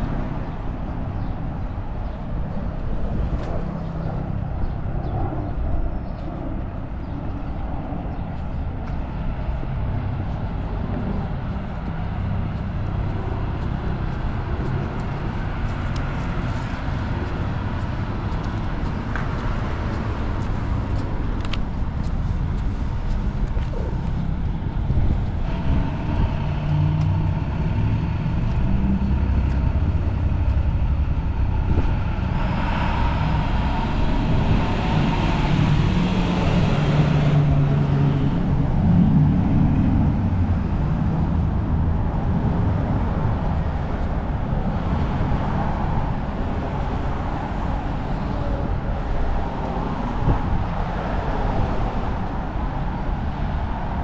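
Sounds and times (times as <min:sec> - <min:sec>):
traffic engines rumbling: 0:00.0 - 0:54.0
loud vehicle passing: 0:09.1 - 0:54.0.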